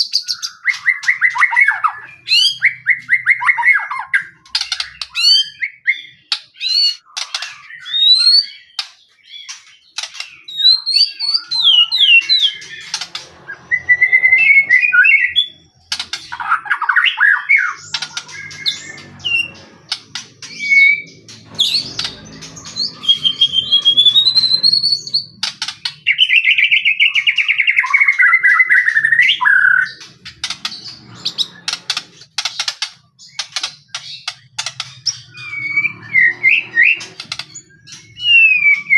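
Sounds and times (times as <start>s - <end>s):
bird whistling song: 0.0s - 38.9s.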